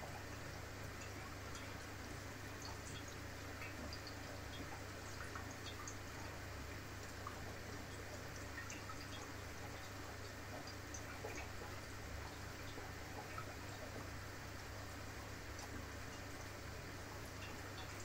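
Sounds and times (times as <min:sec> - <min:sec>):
aquarium water circulation hum: 0:00.0 - 0:18.0
water drips and ticks: 0:00.0 - 0:18.0.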